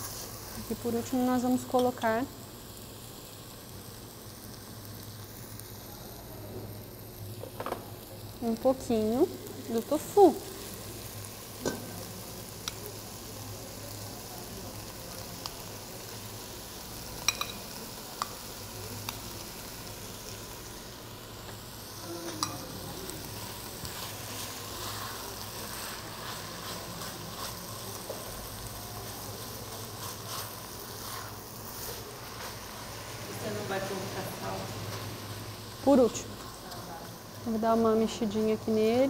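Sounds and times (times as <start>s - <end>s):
food sizzling in a pot: 0.0s - 39.0s.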